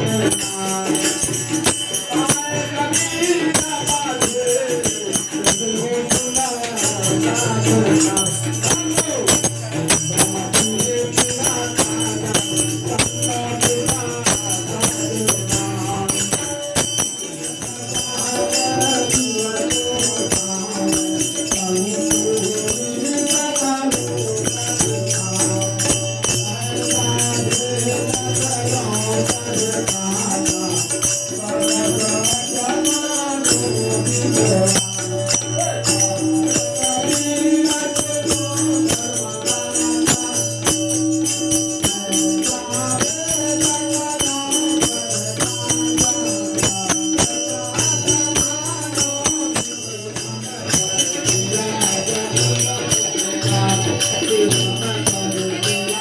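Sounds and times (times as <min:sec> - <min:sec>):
group of voices singing: 0:00.0 - 0:56.0
jingling hand percussion: 0:00.0 - 0:56.0.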